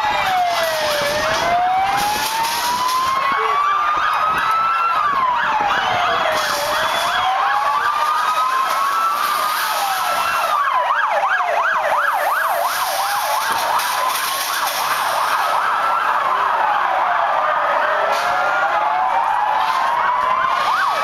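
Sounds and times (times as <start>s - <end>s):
police siren wailing: 0.0s - 21.0s
siren fast yelp: 0.0s - 21.0s.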